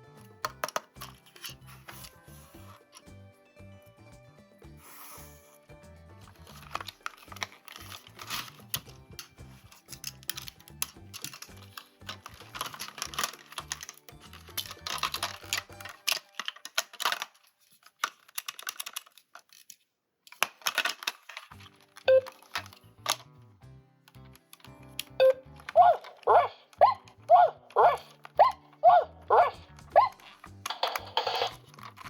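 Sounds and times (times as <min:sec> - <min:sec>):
background music: 0:00.0 - 0:17.0, 0:21.4 - 0:32.0
plastic toy parts clicking: 0:00.4 - 0:02.2, 0:06.4 - 0:23.3, 0:24.1 - 0:32.0.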